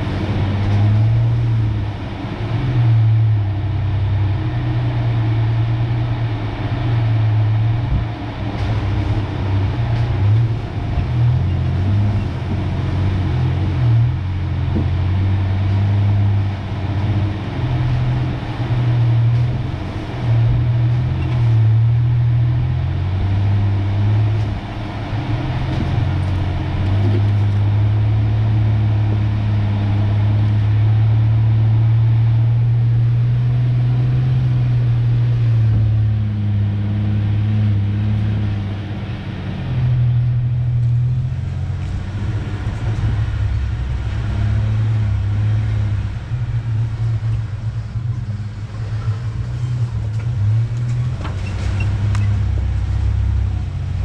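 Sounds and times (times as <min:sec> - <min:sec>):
pickup engine droning: 0:00.0 - 0:54.0.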